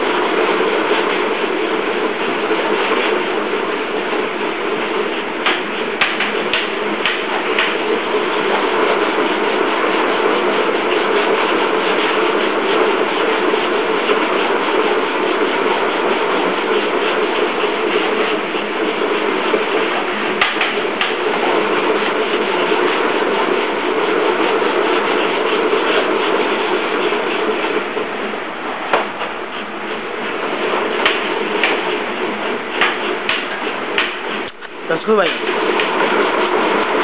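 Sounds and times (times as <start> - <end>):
dog treadmill running: 0.0 - 37.0
paws clattering on treadmill belt: 2.4 - 37.0.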